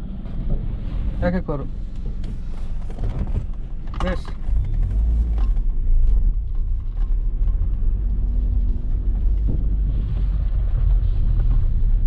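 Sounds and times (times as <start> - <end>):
car engine low rumble: 0.0 - 12.0
road noise: 0.0 - 12.0.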